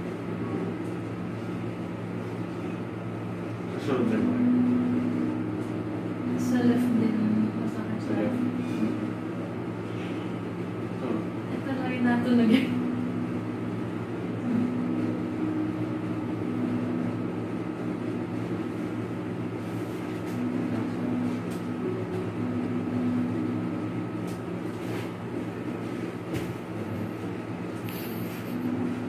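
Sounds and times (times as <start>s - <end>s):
machine hum with whine: 0.0s - 29.0s.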